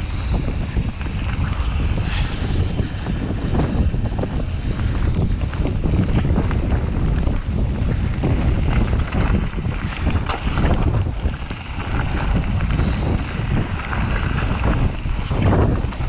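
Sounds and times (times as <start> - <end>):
tyres rolling on loose gravel: 0.0 - 16.0
wind buffeting microphone: 0.0 - 16.0.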